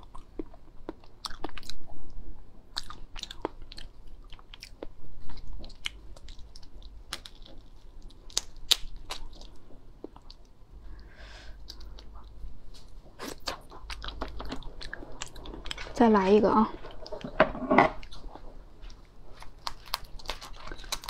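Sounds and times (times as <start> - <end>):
wet chewing: 0.0 - 1.9, 2.7 - 15.9, 18.0 - 21.0.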